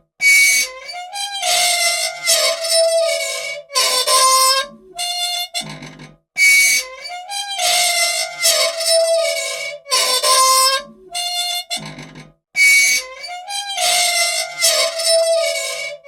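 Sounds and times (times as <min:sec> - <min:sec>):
metal joints squealing: 0:00.3 - 0:16.0.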